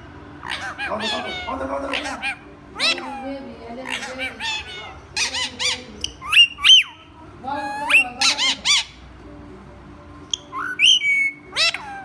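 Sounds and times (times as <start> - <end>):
parakeet shrill squawks: 0.4 - 9.0, 10.4 - 12.0.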